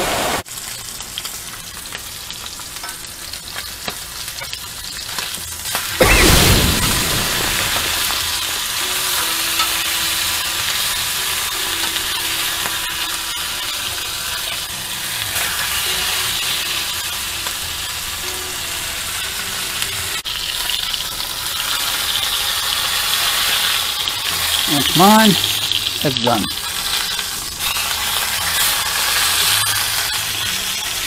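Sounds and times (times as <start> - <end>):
steaks sizzling in skillet: 0.1 - 31.0.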